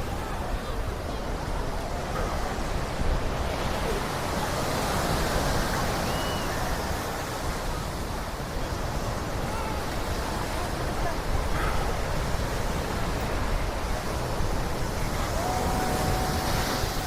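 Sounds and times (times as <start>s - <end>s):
waves washing onto beach: 0.0s - 17.0s
wind on microphone: 0.0s - 17.0s.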